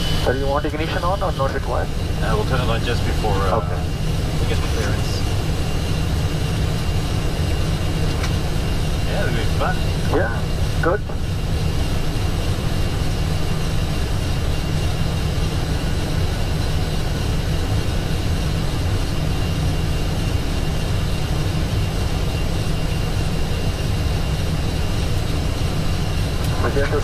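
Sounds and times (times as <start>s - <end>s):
jet engines idling: 0.0s - 27.0s.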